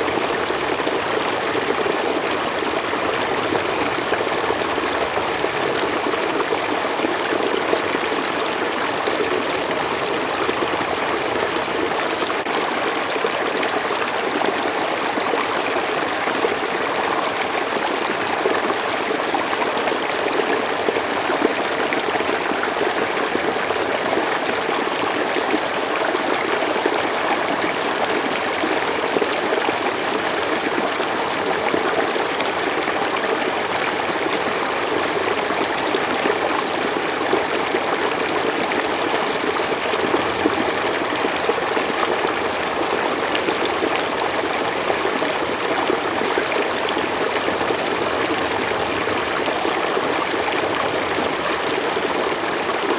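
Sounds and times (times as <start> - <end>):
stream flowing over rocks: 0.0 - 52.9.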